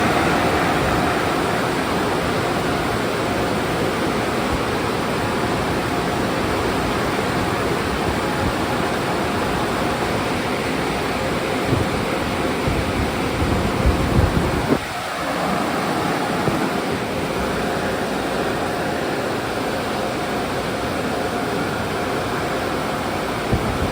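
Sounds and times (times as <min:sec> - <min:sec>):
water jets spraying: 0:00.0 - 0:23.9.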